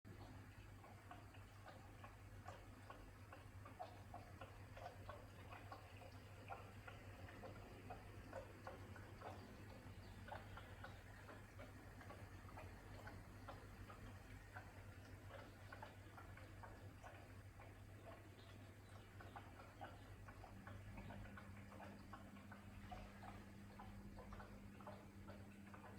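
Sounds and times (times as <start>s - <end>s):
light ticks: 0.1s - 25.9s.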